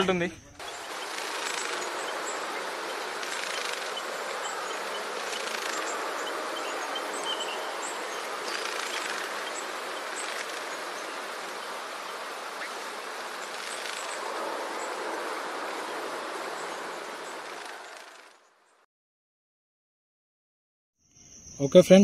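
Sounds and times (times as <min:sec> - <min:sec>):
rustling of leaves and vines: 0:00.4 - 0:18.5.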